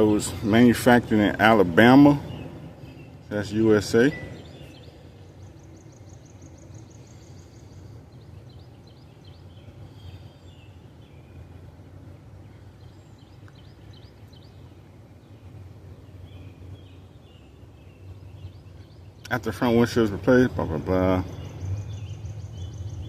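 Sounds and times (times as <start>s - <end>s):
bird trill: 0.0s - 11.5s, 12.4s - 23.0s
small birds chirping: 0.0s - 23.0s
steady low hum: 0.0s - 23.0s.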